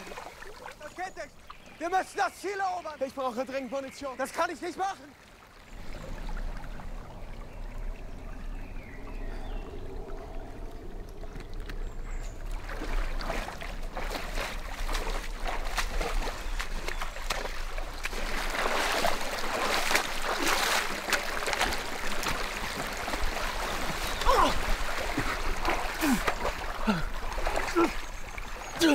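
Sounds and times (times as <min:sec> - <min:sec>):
feet splashing through water: 0:00.0 - 0:01.8, 0:05.0 - 0:28.9
shallow stream running: 0:00.0 - 0:28.9.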